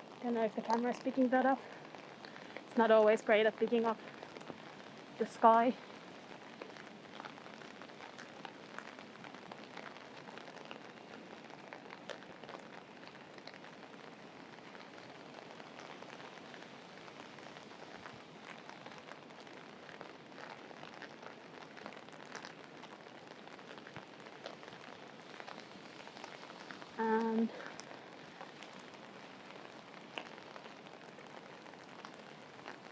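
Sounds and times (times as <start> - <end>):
sharp raindrop impacts: 0.0 - 32.9
steady rain falling: 0.0 - 32.9.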